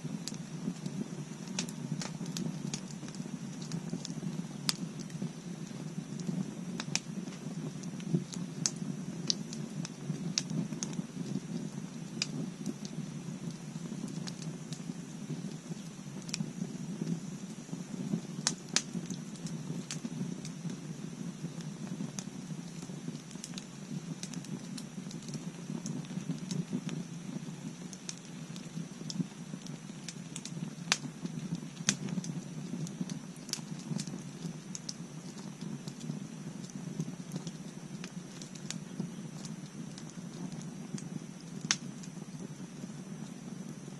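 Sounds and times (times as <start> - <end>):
burning wood popping and snapping: 0.0 - 43.9
low rumble of flames: 0.0 - 43.9.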